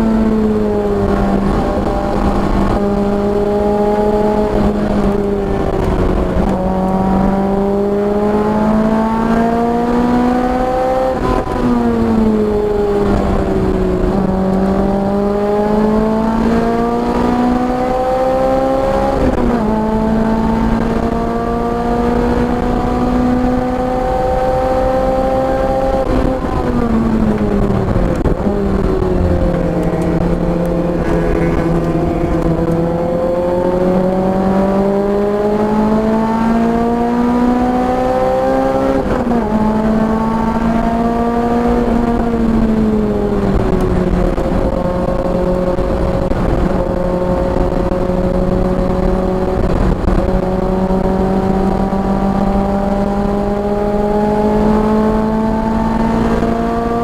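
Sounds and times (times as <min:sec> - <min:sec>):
racing car engine revving: 0:00.0 - 0:57.0
wind and road noise: 0:00.0 - 0:57.0.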